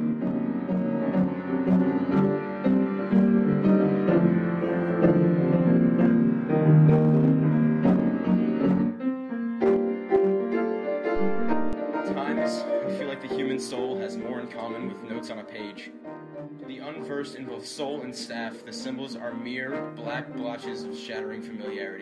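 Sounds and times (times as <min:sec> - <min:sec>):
piano melody: 0:00.0 - 0:22.0.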